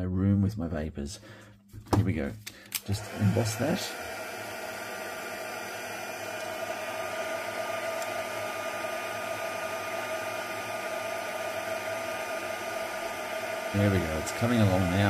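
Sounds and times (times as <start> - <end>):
heat tool fan humming: 2.8 - 15.0.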